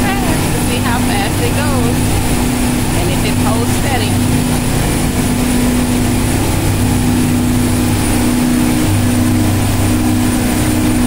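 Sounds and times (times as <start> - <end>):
boat engines droning: 0.0 - 11.0.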